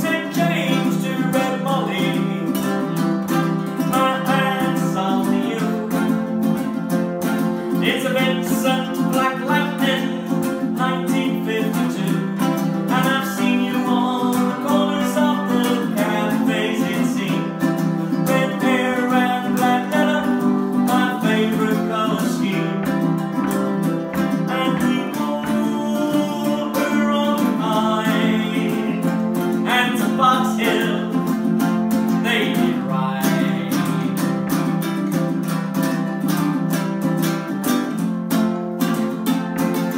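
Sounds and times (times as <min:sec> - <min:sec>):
ukuleles playing folk song: 0:00.0 - 0:39.9.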